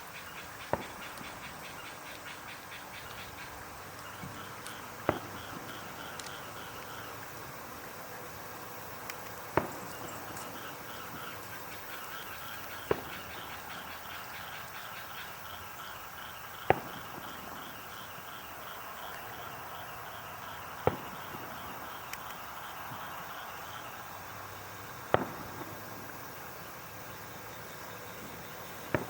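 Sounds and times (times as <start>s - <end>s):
distant fireworks bursting: 0.0s - 29.0s
night insects chorus: 0.0s - 29.0s.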